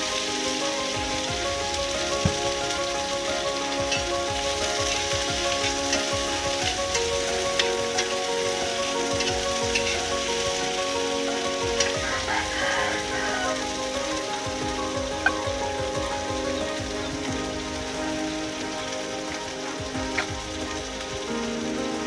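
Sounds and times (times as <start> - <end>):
soft background music: 0.0 - 22.0
vegetables sizzling in a wok: 0.0 - 22.0.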